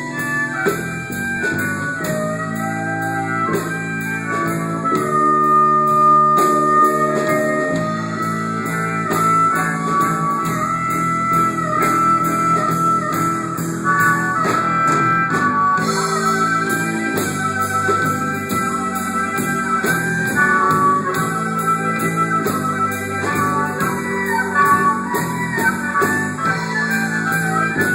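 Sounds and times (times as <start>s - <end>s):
lead guitar melody: 0.0s - 27.9s
steady beat: 0.0s - 27.9s.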